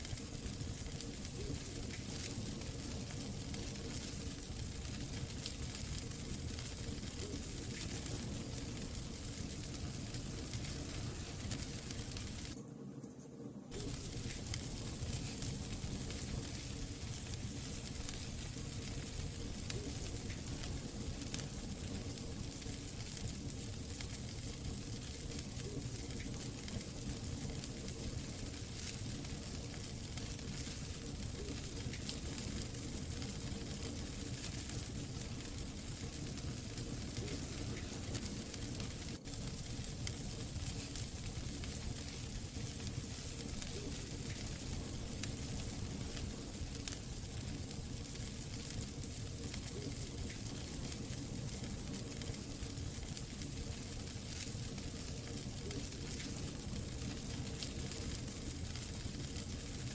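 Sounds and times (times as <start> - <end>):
wood fire crackling: 0.0 - 12.6, 13.7 - 59.9.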